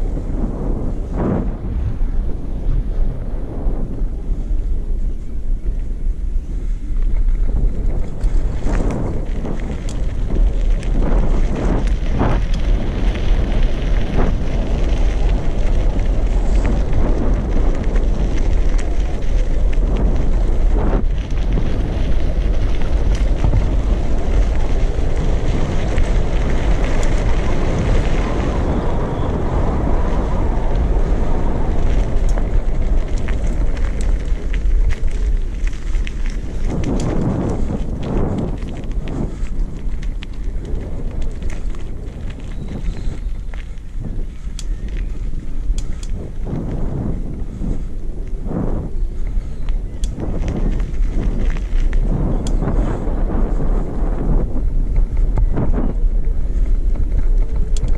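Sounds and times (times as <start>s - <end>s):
bicycle rattles and ticks: 0.0s - 57.9s
tyres rolling on gravel: 0.0s - 57.9s
wind rumbling on microphone: 0.0s - 57.9s.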